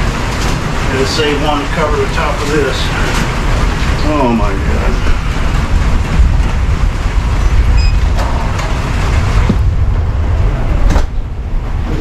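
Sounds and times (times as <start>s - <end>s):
heavy rain on a roof: 0.0s - 12.0s.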